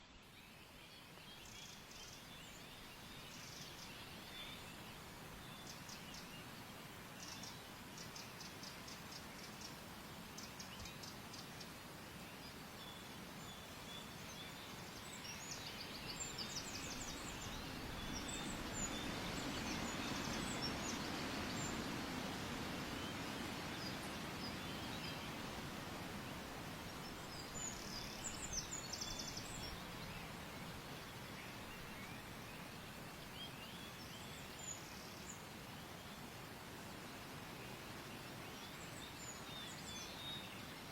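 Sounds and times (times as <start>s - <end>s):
small birds chirping and trilling: 0.1s - 36.4s, 37.0s - 40.9s.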